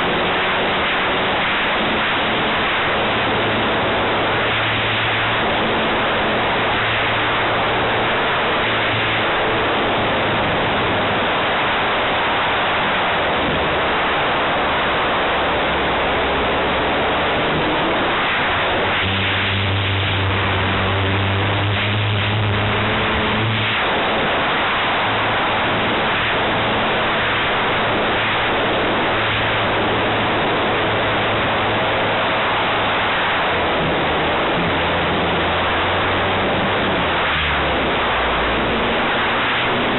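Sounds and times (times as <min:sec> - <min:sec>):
model plane motor and propeller drone: 0:00.0 - 0:12.2, 0:13.2 - 0:39.9
wind rush: 0:00.0 - 0:39.9.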